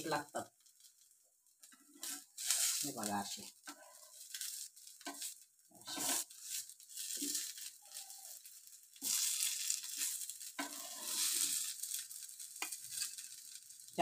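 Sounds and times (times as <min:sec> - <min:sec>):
cutlets sizzling in oil: 0:00.0 - 0:14.0
spatula scraping a pan: 0:01.6 - 0:13.8.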